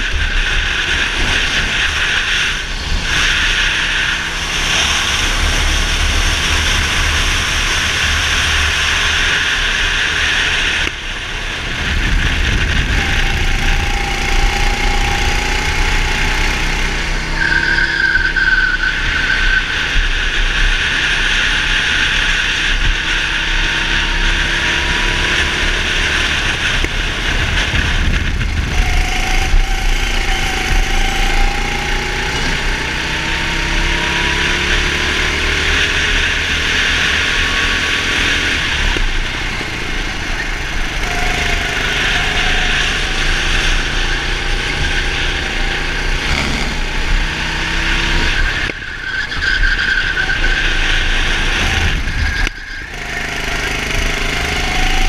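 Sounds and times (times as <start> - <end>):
wind noise on microphone: 0.0 - 17.6, 19.0 - 55.0
go-kart engine accelerating: 0.0 - 55.0.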